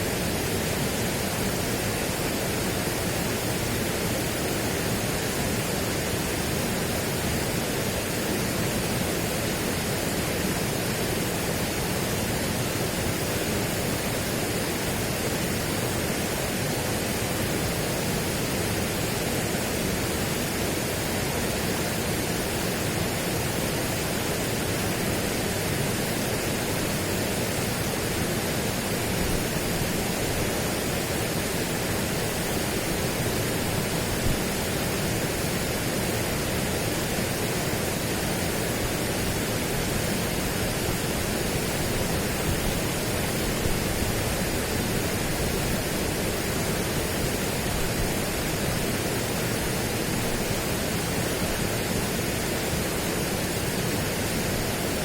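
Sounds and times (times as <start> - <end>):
steady broadband rushing noise: 0.0 - 55.0.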